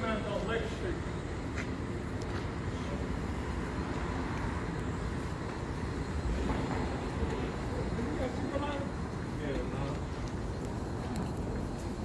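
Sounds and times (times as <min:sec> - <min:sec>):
low rumble of city noise: 0:00.0 - 0:12.0.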